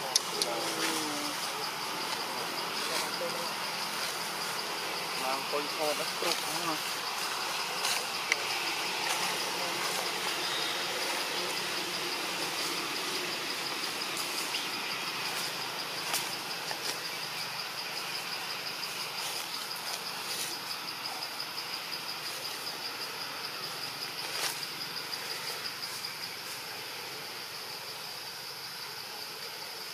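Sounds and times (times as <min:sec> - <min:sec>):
background hiss: 0:00.0 - 0:29.9
insects trilling: 0:00.0 - 0:29.9.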